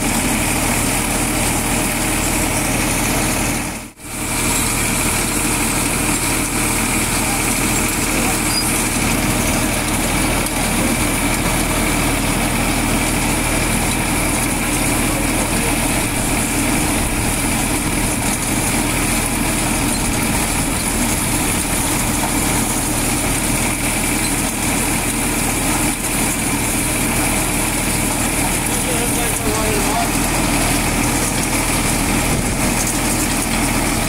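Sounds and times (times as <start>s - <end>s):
threshing drum whirring: 0.0s - 34.0s
tractor diesel engine running: 0.0s - 34.0s.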